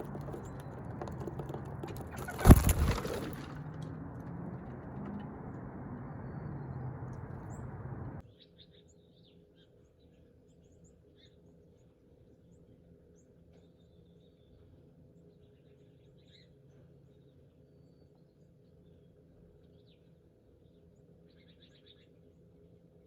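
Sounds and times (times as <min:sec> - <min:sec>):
faint small birds chirping: 0:00.0 - 0:22.8.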